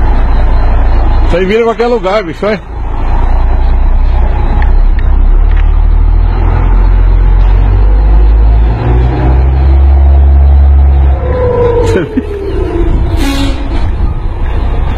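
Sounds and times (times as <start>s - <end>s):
truck diesel engine running: 0.0s - 14.9s.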